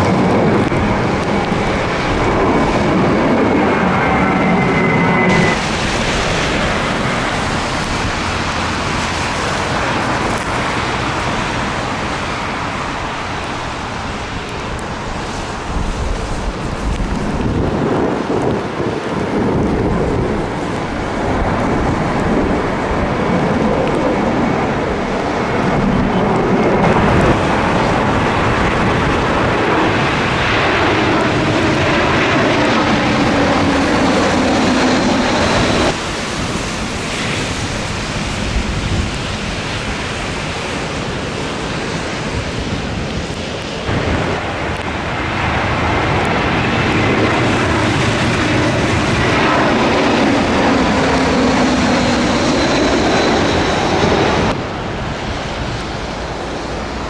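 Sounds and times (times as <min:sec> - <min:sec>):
jet engines passing low: 0:00.0 - 0:57.0
wind on microphone: 0:00.0 - 0:57.0.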